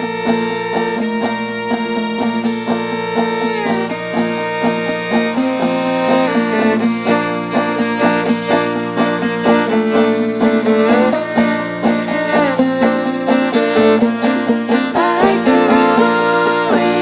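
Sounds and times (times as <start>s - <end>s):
banjo plucking: 0.0s - 17.0s
fiddle sliding notes: 0.0s - 17.0s.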